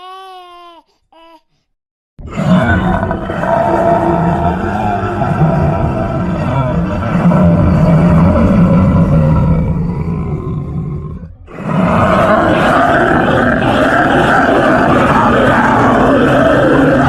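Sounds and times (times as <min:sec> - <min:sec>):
deep growling roars: 0:02.2 - 0:17.0.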